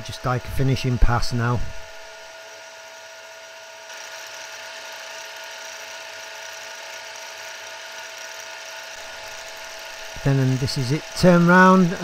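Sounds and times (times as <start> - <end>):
milling machine hum: 0.0 - 12.0.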